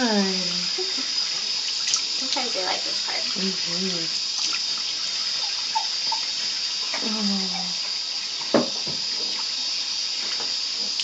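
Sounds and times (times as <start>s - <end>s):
water running from sink tap: 0.0s - 11.0s.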